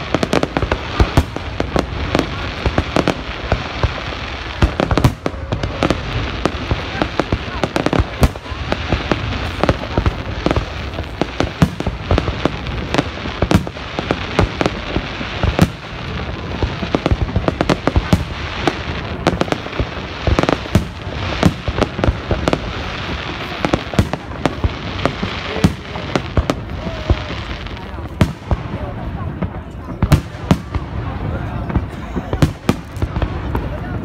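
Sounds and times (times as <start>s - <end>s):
continuous background noise: 0.0s - 34.0s
fireworks exploding: 0.0s - 34.0s.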